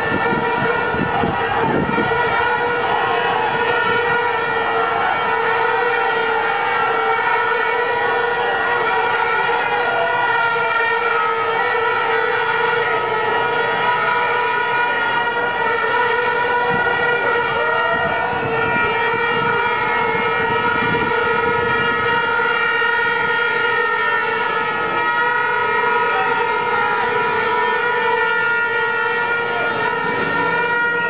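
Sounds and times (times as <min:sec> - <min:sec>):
horn-like drone: 0:00.0 - 0:31.0
marching crowd noise: 0:00.0 - 0:31.0.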